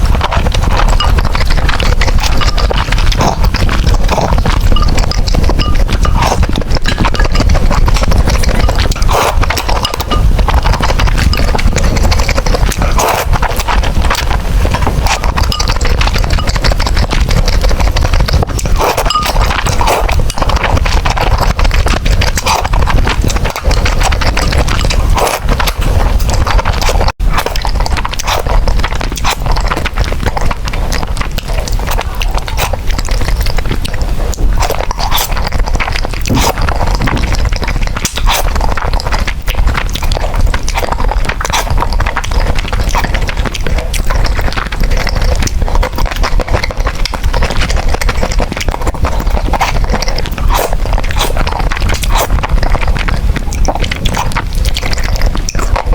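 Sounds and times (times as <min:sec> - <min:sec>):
noodles chewed and slurped: 0:00.0 - 0:55.9.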